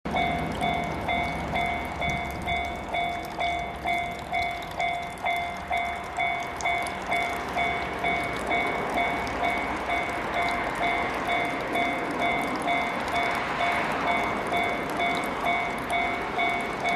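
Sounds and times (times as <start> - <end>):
electric train running: 0.1 - 16.9.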